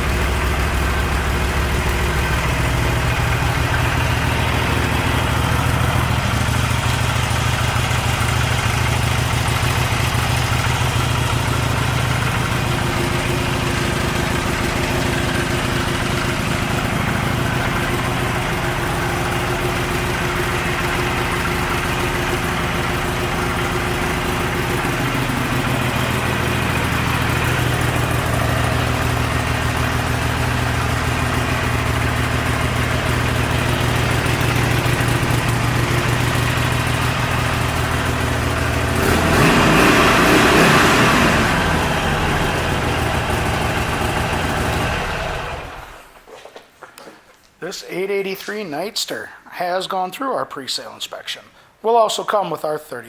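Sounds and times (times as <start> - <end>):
motorcycle engine idling: 0.0 - 46.2.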